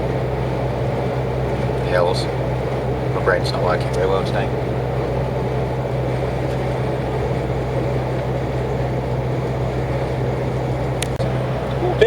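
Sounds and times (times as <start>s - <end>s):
lorry engine drone: 0.0s - 12.0s.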